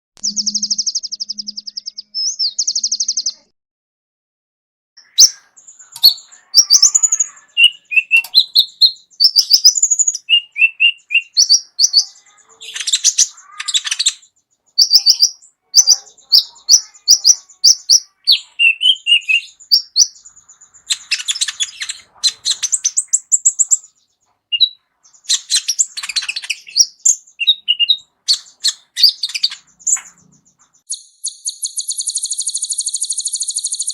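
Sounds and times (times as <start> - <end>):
sunbird singing: 0.2 - 3.5, 5.0 - 33.9.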